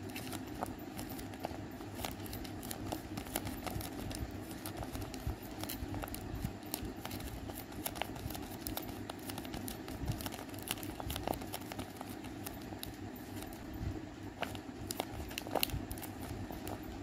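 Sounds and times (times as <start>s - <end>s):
paper squishy crinkling: 0.0s - 13.7s, 14.3s - 17.0s.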